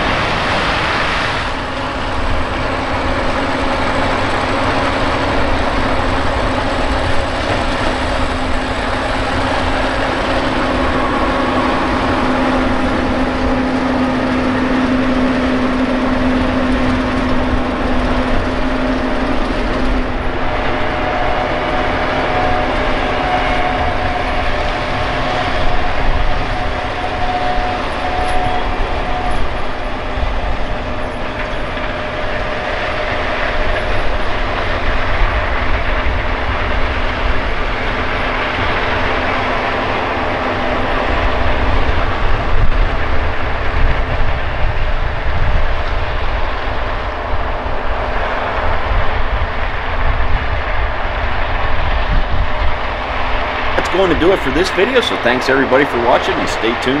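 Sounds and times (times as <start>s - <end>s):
heavy diesel machinery drone: 0.0s - 57.0s.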